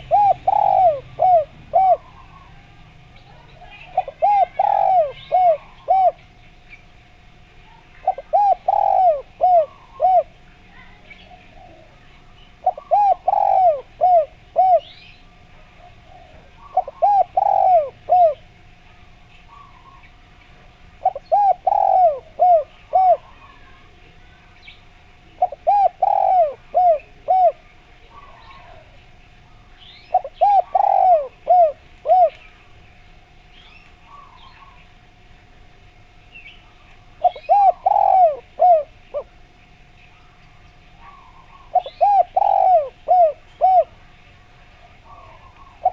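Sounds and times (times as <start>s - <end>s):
dove cooing: 0.0s - 6.5s, 7.7s - 24.5s, 25.1s - 32.6s, 33.9s - 35.0s, 37.0s - 39.5s, 41.0s - 45.9s
small birds chirping: 0.0s - 35.2s, 36.2s - 45.9s.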